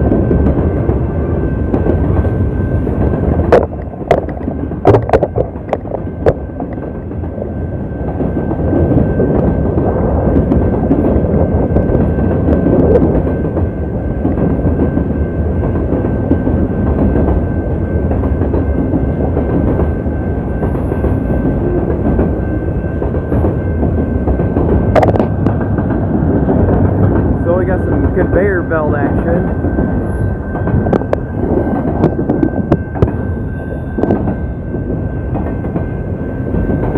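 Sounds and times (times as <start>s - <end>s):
train wheels rumbling on rails: 0.0s - 36.9s.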